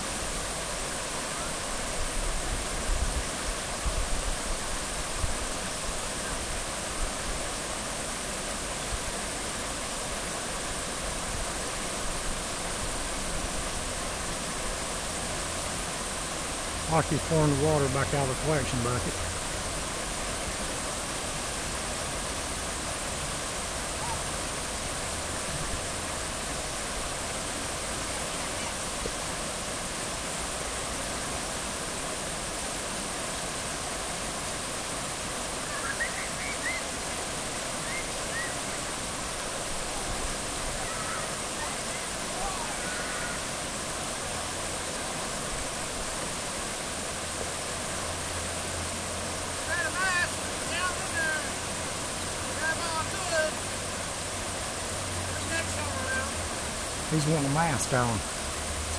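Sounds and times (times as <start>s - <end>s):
river rapids rushing: 0.0s - 58.9s.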